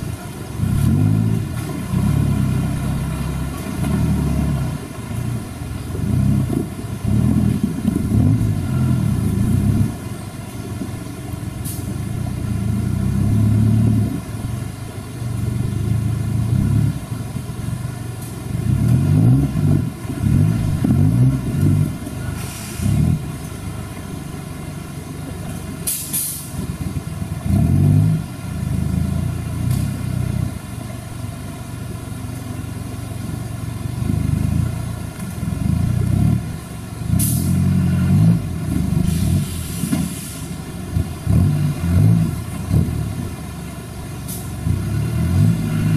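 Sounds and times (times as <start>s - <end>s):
off-road buggy engine revving: 0.0s - 45.9s.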